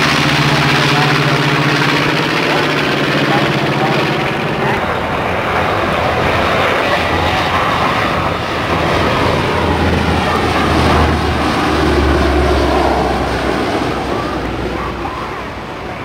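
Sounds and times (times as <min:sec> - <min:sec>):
turboprop plane flying low: 0:00.0 - 0:16.0.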